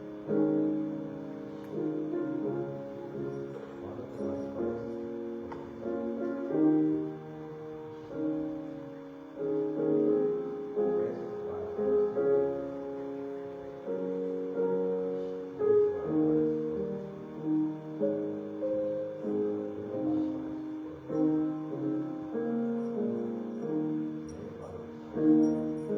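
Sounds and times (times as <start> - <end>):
slow keyboard chords: 0.0 - 25.9.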